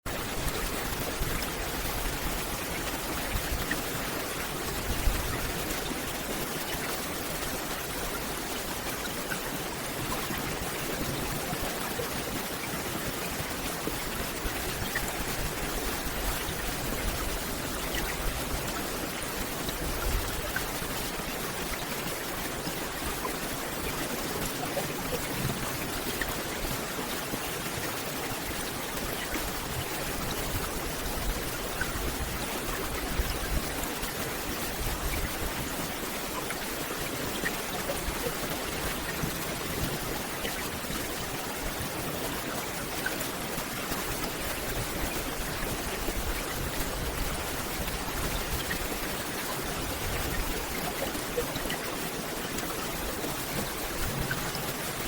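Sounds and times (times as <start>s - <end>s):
rain on forest canopy: 0.0s - 55.0s.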